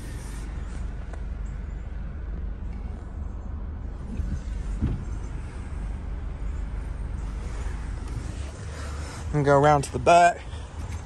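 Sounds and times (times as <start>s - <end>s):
low rumble in car cabin: 0.0s - 11.0s.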